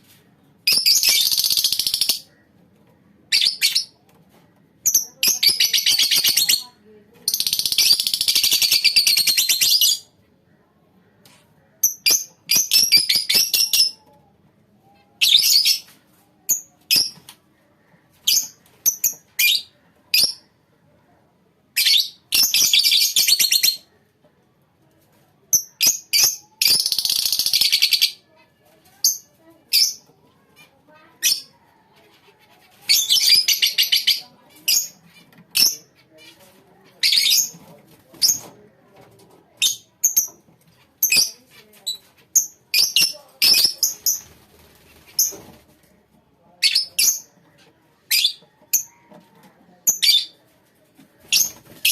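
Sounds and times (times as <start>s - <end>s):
lovebirds chattering: 0.2s - 20.9s, 25.5s - 51.9s.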